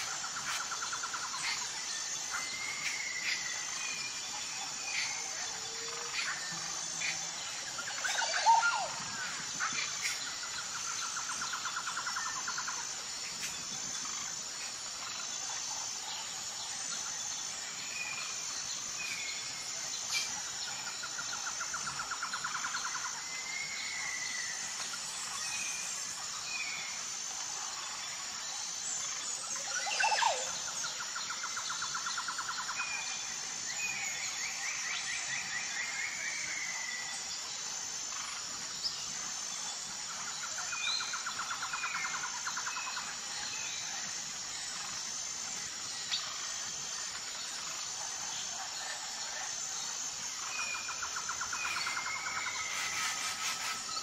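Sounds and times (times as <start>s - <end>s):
pulsing insect chorus: 0.0s - 54.0s.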